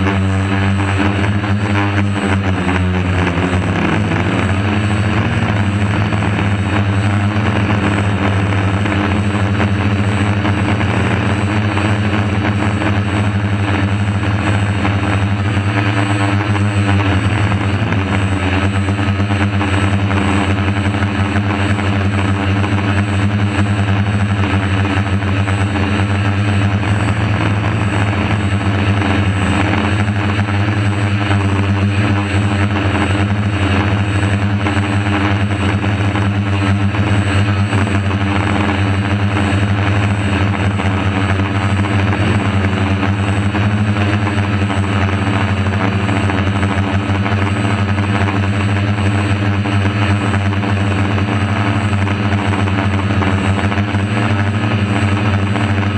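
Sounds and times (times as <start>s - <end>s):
drone motors and propellers humming: 0.0s - 55.9s.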